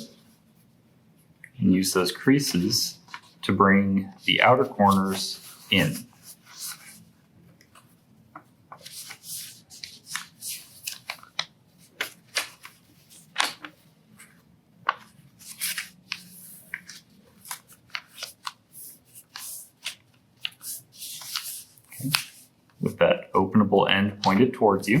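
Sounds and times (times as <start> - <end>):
paper crinkling and rustling: 2.1 - 3.5, 4.2 - 22.8.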